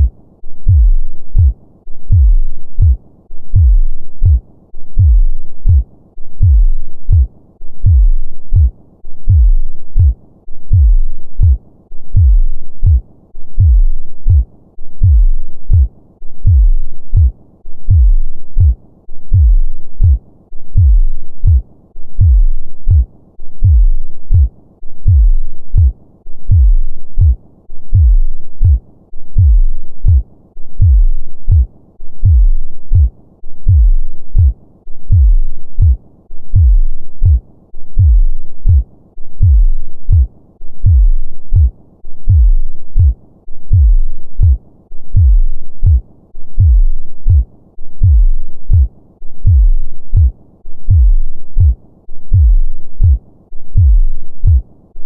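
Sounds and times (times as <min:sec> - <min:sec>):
heartbeat: 0:00.0 - 0:54.7.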